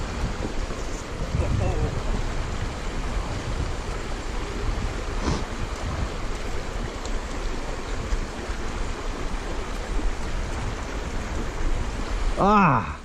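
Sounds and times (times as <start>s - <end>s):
wind rumble on microphone: 0.0s - 12.4s
stream running over rocks: 0.0s - 13.0s.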